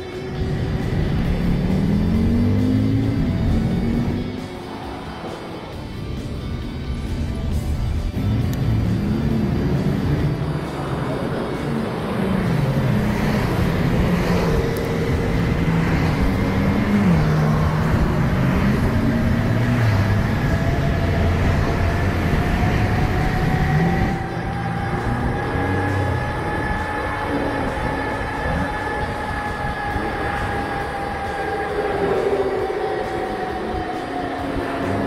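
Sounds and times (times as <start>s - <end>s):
vehicle motor whine: 0.0s - 35.0s.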